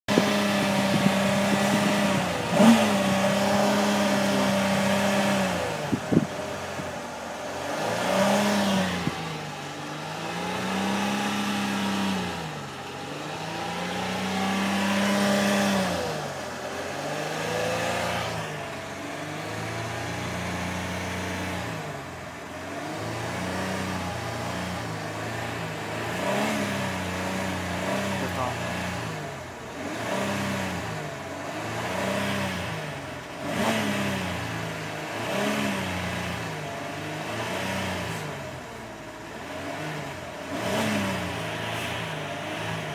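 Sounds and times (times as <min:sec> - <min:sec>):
car engine revving: 0:00.1 - 0:42.9.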